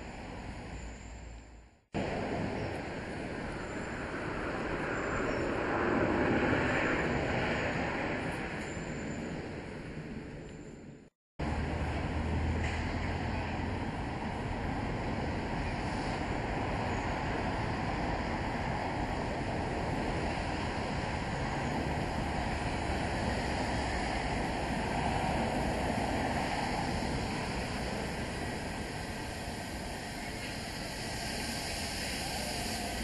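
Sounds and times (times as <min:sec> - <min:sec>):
locomotive rushing noise: 0:02.0 - 0:10.4, 0:11.4 - 0:33.0.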